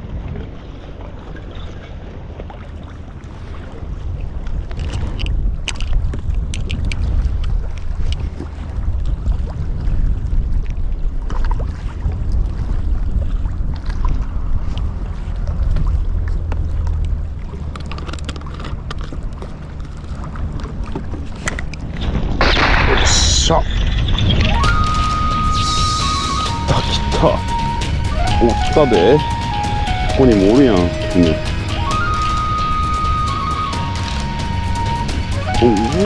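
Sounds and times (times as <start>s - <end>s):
choppy water: 0.0s - 36.0s
wind on microphone: 0.0s - 36.0s.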